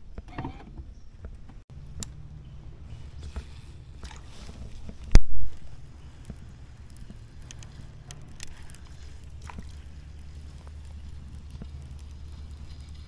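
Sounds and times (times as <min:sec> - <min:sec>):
steady low rumble: 0:00.9 - 0:13.0.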